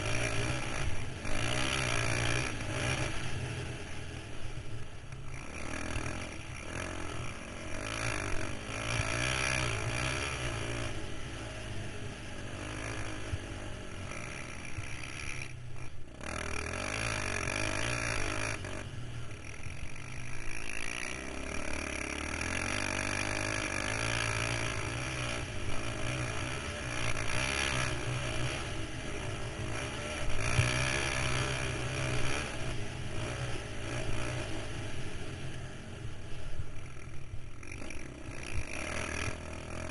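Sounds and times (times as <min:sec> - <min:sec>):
quad engine revving under load: 0:00.0 - 0:39.9.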